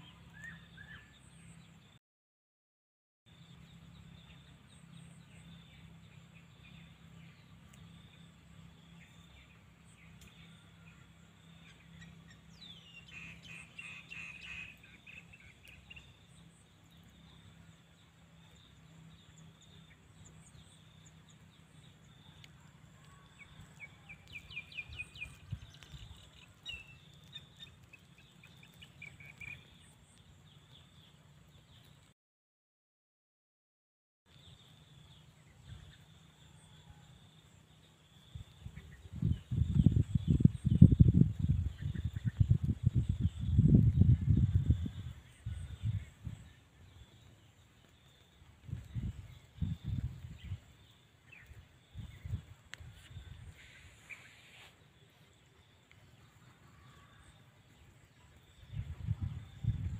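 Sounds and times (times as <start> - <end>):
birds chirping: 3.3 - 32.1, 34.3 - 59.9.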